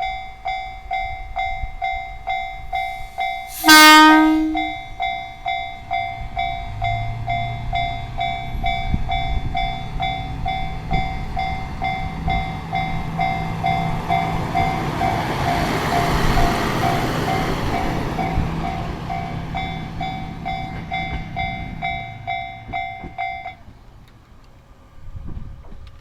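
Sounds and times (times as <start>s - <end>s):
level-crossing alarm bell ringing: 0.0s - 23.6s
diesel railcar engine hum: 0.0s - 26.0s
rush of passing train: 0.0s - 26.0s.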